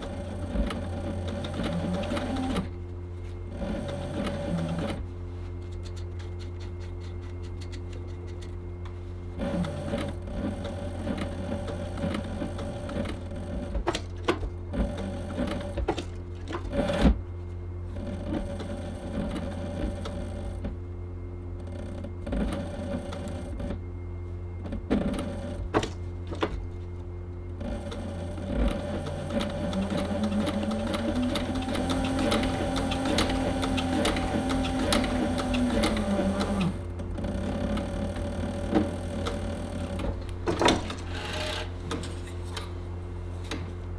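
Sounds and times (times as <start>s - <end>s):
sewing machine motor hum: 0.0s - 8.6s, 9.3s - 17.2s, 17.9s - 20.8s, 21.5s - 23.9s, 24.6s - 26.6s, 27.4s - 41.8s.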